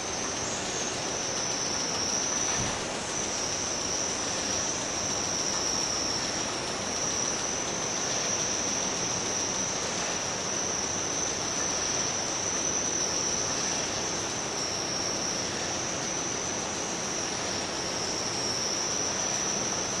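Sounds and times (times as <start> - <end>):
dense hiss with high whine: 0.0 - 20.0.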